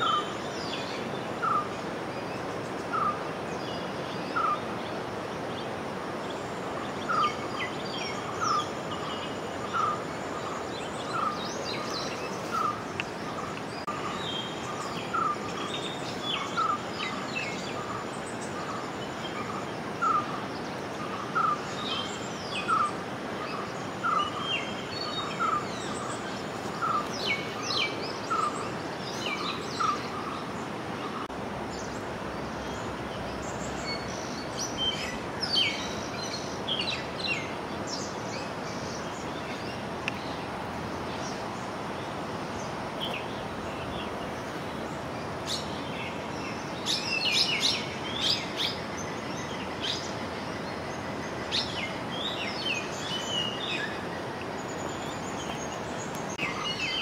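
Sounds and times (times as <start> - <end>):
birds chirping high: 0.0 - 57.0
steady background noise: 0.0 - 57.0.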